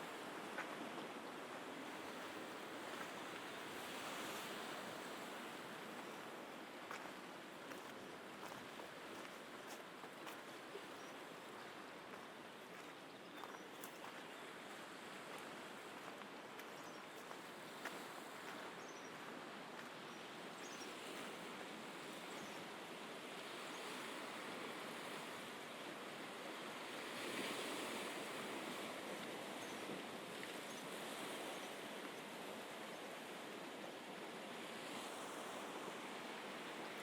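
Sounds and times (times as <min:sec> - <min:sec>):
sea waves washing onto shore: 0:00.0 - 0:20.0, 0:20.8 - 0:37.0.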